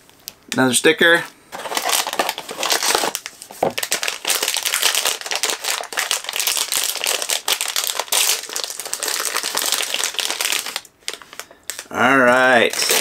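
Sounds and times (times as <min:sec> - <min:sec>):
plastic wrapper crinkling and tearing: 0:01.6 - 0:13.0.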